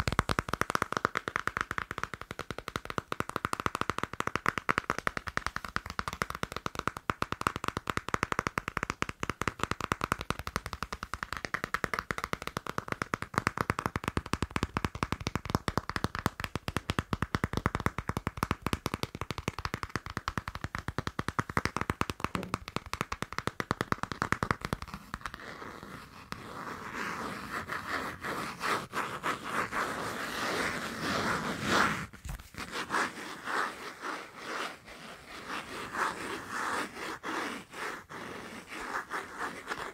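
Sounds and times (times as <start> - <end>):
fast tapping on a passport: 0.0 - 39.9
scratching on a passport: 0.0 - 39.9.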